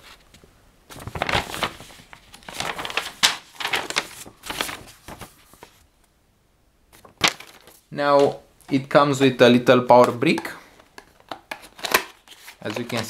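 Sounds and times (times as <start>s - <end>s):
paper pages rustling: 0.0s - 5.9s, 6.9s - 9.4s, 10.0s - 13.0s.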